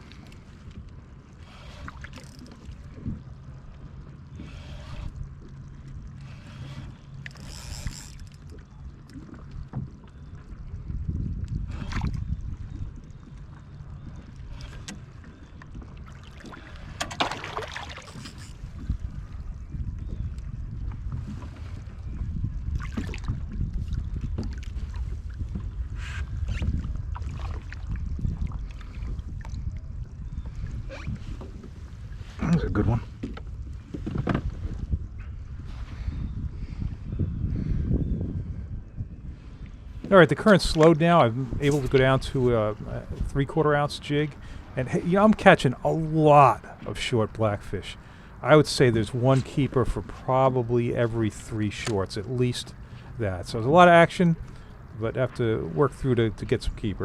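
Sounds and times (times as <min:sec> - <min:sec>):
water lapping against kayak hull: 0:00.0 - 0:57.0
wind rumble on microphone: 0:00.0 - 0:57.0.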